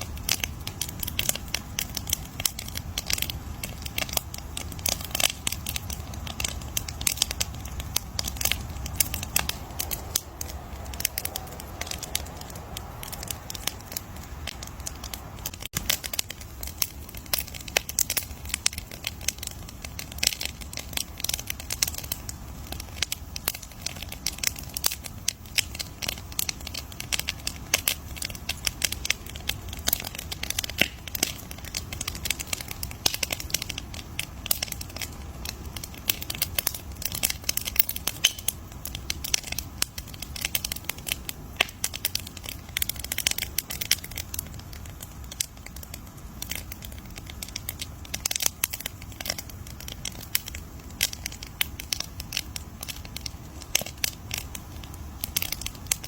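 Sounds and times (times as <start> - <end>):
burning wood popping and snapping: 0.0 - 56.0
low rumble of flames: 0.0 - 56.0.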